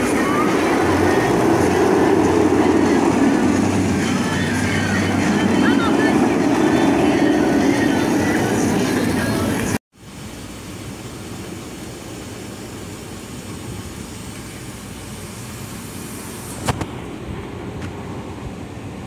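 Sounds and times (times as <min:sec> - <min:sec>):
low hum of car traffic: 0:00.0 - 0:19.0.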